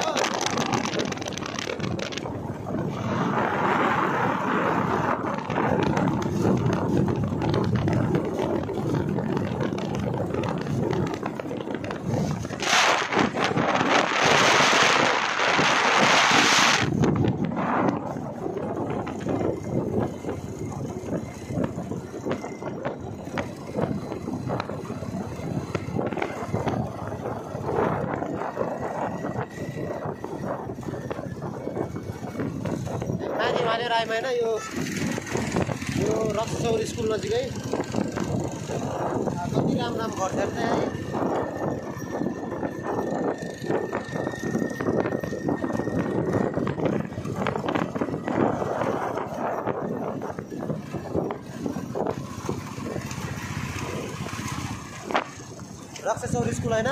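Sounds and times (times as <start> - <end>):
motorcycle engine: 0.0 - 56.9
road noise: 0.0 - 56.9
wind buffeting microphone: 0.0 - 56.9.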